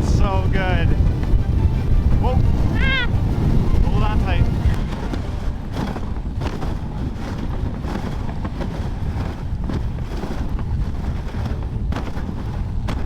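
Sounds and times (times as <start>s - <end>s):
sled scraping over snow: 0.0s - 13.0s
wind buffeting microphone: 0.0s - 13.0s.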